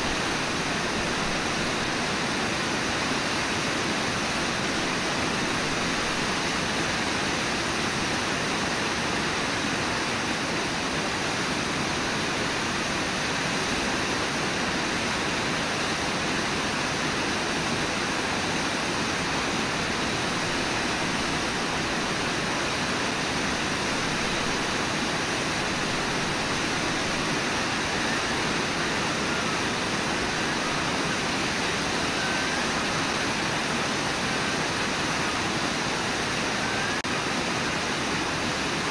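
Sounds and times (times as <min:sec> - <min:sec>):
river whitewater rushing: 0:00.0 - 0:38.9.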